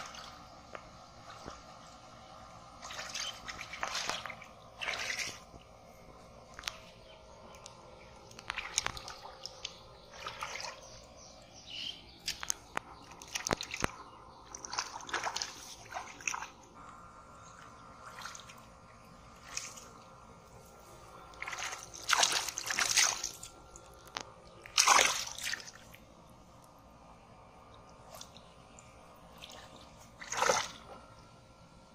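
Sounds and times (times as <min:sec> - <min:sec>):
muddy water splashing: 0:00.0 - 0:16.8, 0:17.4 - 0:26.8, 0:27.5 - 0:31.5.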